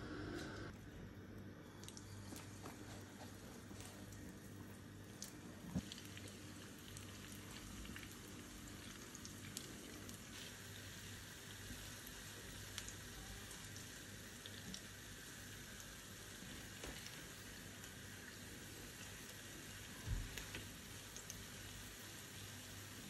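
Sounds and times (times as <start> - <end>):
dough deep-frying in oil: 0.9 - 23.0.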